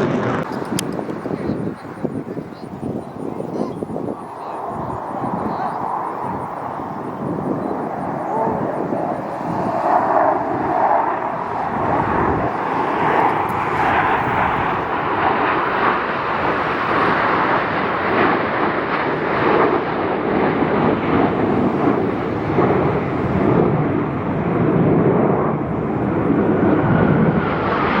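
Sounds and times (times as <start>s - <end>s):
aircraft flying over: 0.0s - 28.0s.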